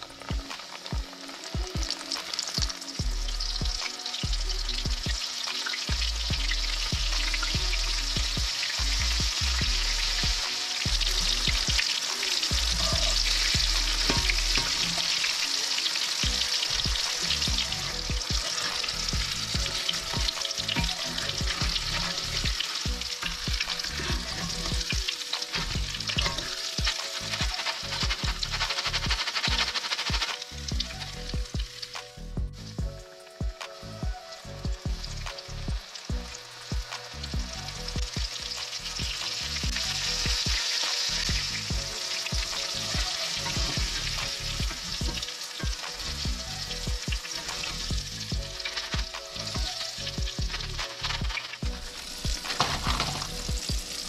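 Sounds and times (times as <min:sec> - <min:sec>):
shrimp sizzling in hot oil: 0:00.0 - 0:54.0.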